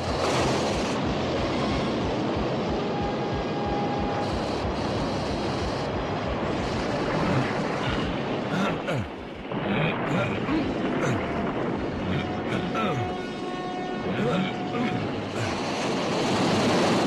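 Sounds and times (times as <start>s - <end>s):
floodwater rushing: 0.0s - 4.0s, 5.8s - 17.0s
deep rumble: 0.0s - 16.4s.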